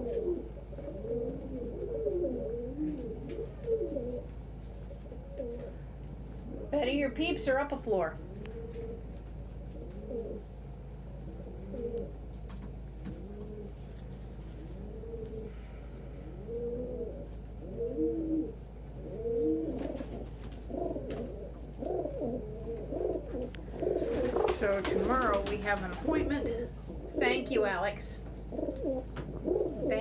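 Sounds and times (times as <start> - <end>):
pigeons cooing: 0.0 - 30.0
steady low hum: 0.0 - 30.0.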